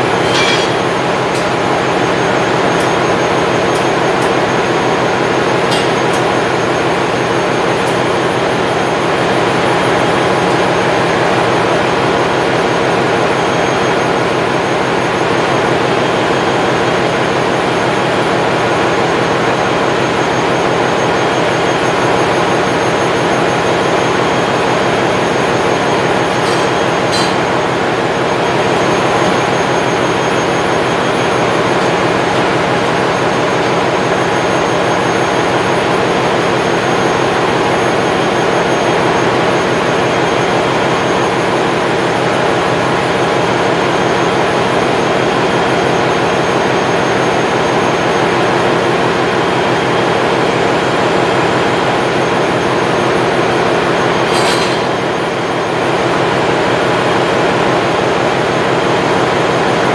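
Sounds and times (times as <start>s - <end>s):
engine room machinery rumble: 0.0s - 59.9s.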